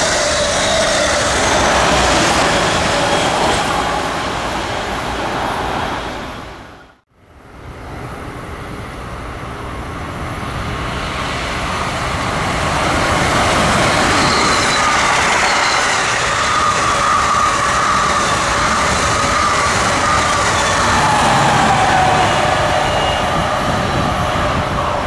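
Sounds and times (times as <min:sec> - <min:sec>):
passenger train passing at speed: 0:00.0 - 0:25.0.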